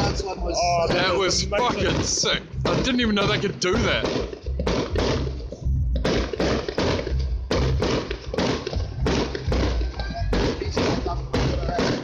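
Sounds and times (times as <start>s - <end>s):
fireworks bursting: 0.8s - 5.4s, 6.0s - 12.0s.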